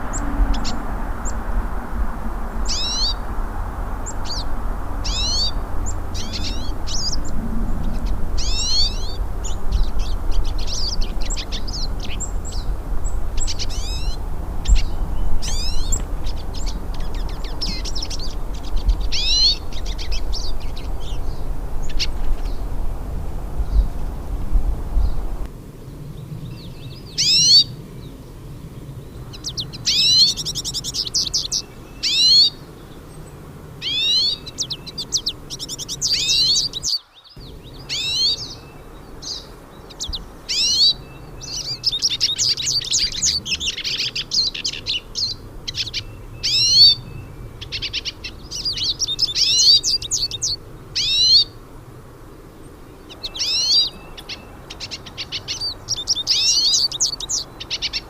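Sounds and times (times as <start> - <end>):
finches singing: 0.0 - 58.0.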